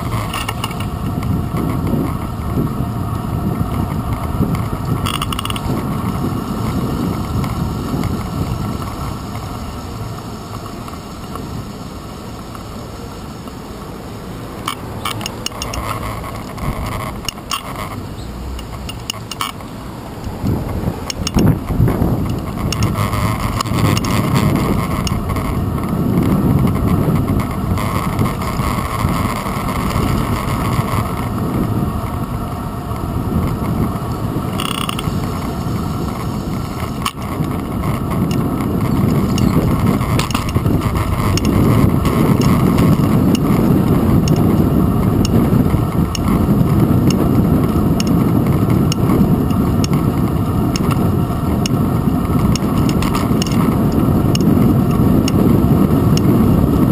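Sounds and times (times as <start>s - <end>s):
faint bicycle mechanism clicks: 0.0s - 2.6s, 3.6s - 11.5s, 14.6s - 32.2s, 34.4s - 56.4s
bicycle road rumble and rattle: 0.0s - 56.9s.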